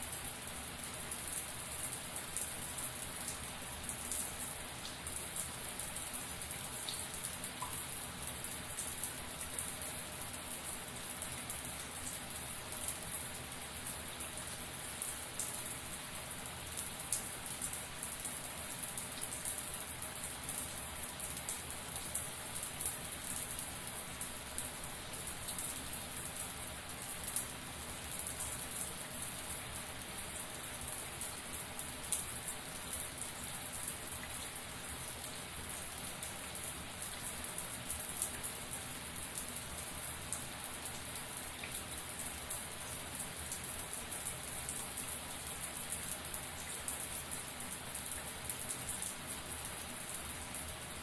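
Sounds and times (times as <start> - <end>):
shower water running: 0.1 - 51.0.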